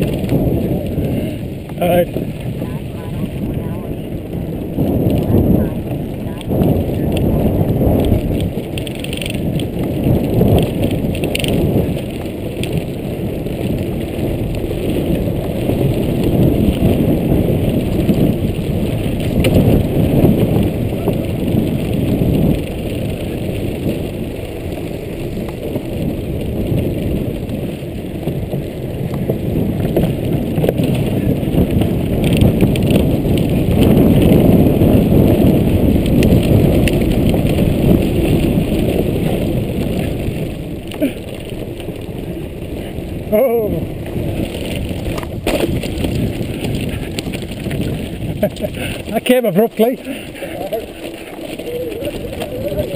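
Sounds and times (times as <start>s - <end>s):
bike tyres rumbling on wooden planks: 0.0s - 52.9s.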